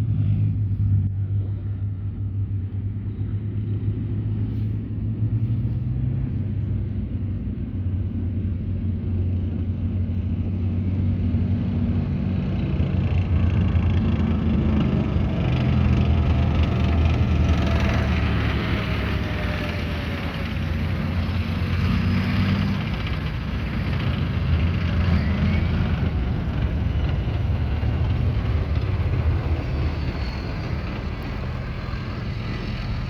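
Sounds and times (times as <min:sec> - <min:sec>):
tank diesel engine rumbling: 0:00.0 - 0:33.0.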